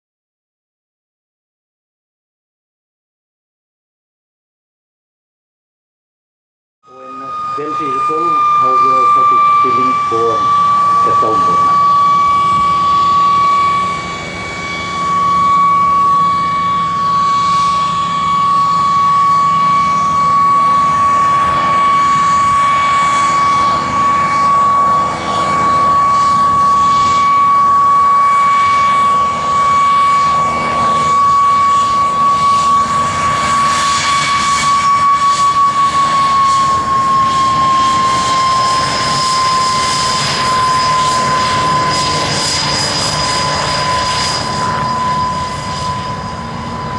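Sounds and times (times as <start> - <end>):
aircraft engine whine: 6.9 - 46.9.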